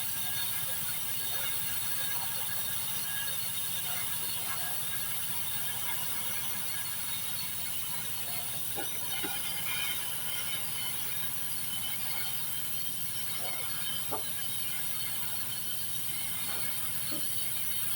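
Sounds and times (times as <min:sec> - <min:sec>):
welding arc hissing and crackling: 0:00.0 - 0:17.9.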